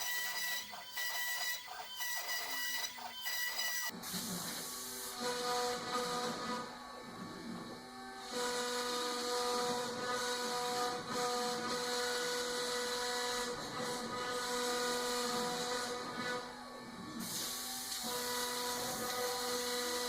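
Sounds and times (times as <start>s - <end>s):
cnc router motor whine: 0.0s - 3.9s, 5.1s - 20.0s.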